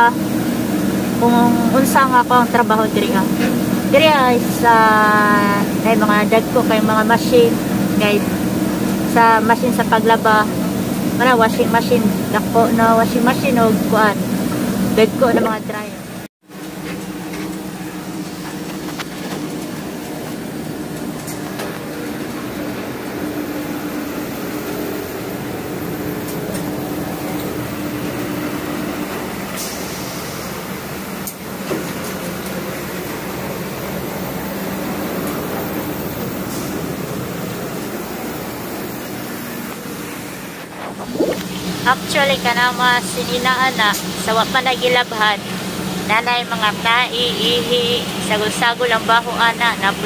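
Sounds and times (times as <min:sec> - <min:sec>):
industrial washing machines running: 0:00.0 - 0:50.0.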